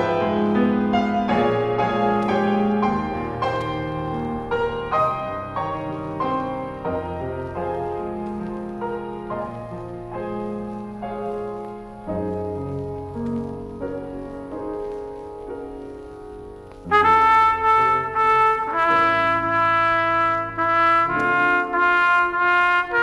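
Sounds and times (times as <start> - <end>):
trumpet melody: 0.0 - 16.2, 16.8 - 23.0
slow piano chords: 0.0 - 23.0.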